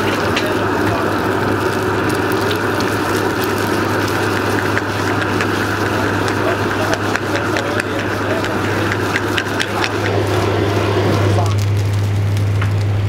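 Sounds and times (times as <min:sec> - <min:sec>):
eggs sizzling: 0:00.0 - 0:13.0
gas burner flame rushing: 0:00.0 - 0:13.0.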